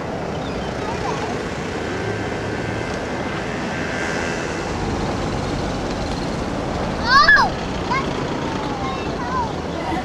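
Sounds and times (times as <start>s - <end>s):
passing road traffic rumble: 0.0s - 10.0s.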